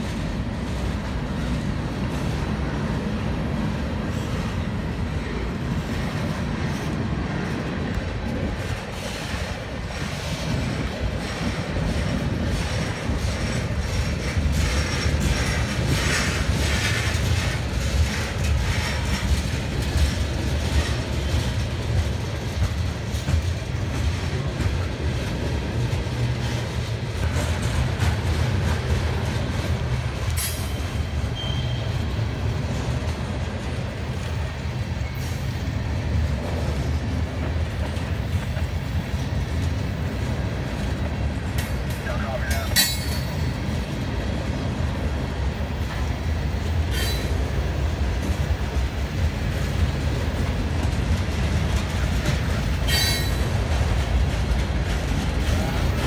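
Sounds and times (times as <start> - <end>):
freight train rumbling past: 0.0 - 56.0
train wheels clacking on rail joints: 0.0 - 56.0.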